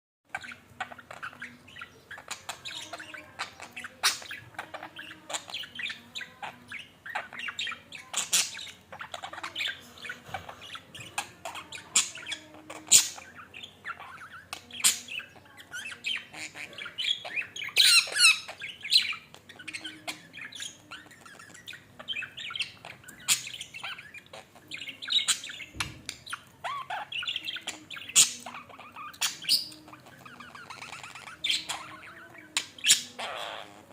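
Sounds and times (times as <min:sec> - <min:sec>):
budgerigar chattering: 0:00.3 - 0:33.9.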